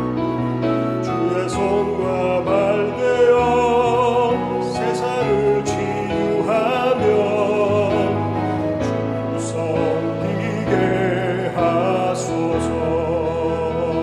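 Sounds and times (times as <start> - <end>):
church choir singing a hymn: 1.1 - 14.0.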